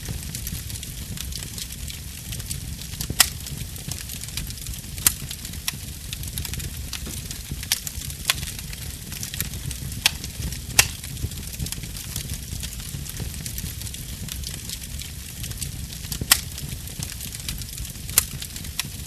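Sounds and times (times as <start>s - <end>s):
low rumble of fire: 0.0s - 19.0s
wood fire crackling and popping: 0.0s - 19.0s.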